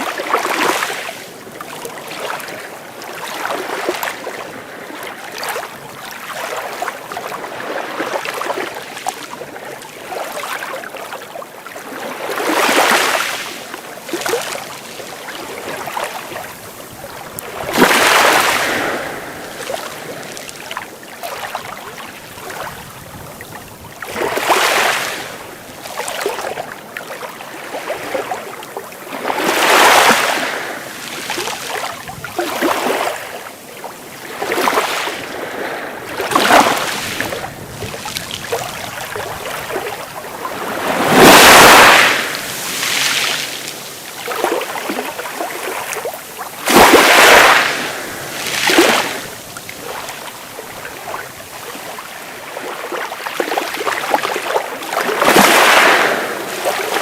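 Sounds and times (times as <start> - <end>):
sea waves breaking: 0.0 - 57.0
small waves lapping: 0.0 - 57.0.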